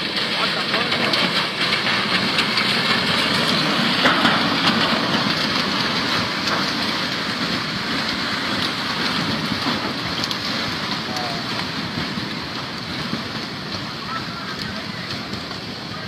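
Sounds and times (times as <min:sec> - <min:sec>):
debris flow rushing rumble: 0:00.0 - 0:16.0
small clicks and cracks: 0:00.7 - 0:16.0.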